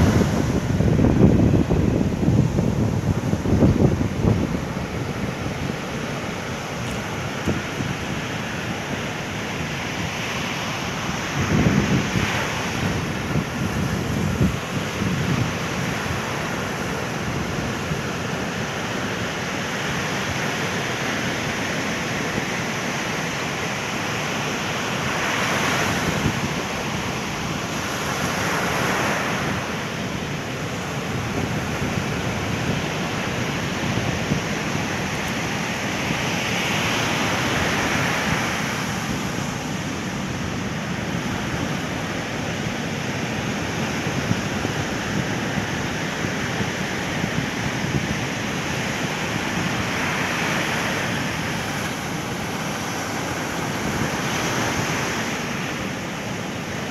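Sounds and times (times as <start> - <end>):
ocean surf breaking on beach: 0.0 - 56.9.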